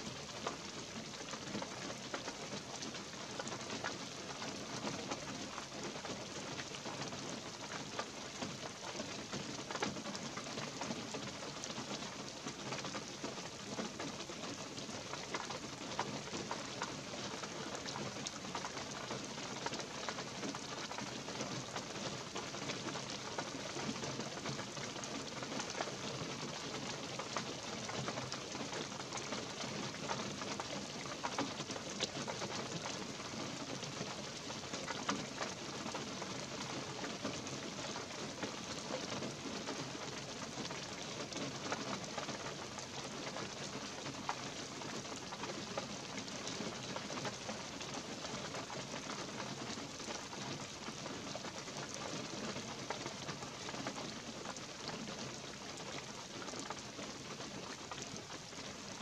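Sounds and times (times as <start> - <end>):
light rain hiss: 0.0 - 59.0
raindrop ticks: 0.0 - 59.0.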